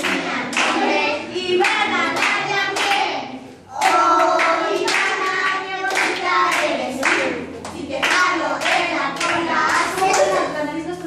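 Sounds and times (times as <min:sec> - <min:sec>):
people clapping: 0:00.0 - 0:10.5
children singing: 0:00.0 - 0:10.6.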